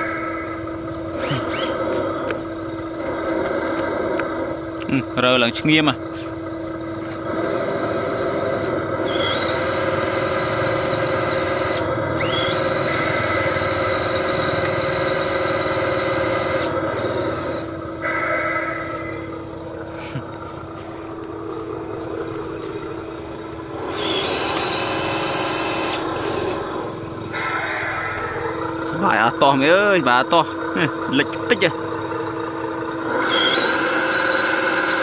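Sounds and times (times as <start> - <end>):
electric motor and gearbox whining: 0.0 - 35.0
higher motor whine: 0.0 - 35.0.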